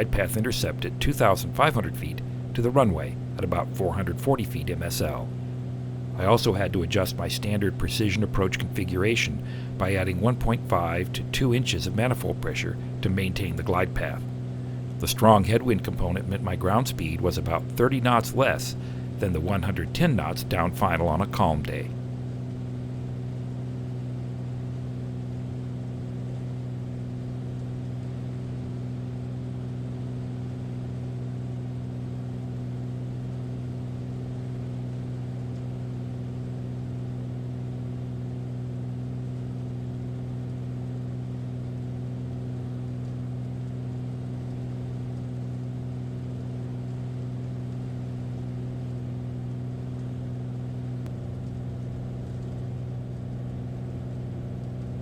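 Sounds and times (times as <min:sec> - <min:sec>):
light aircraft engine and propeller drone: 0:00.0 - 0:55.0.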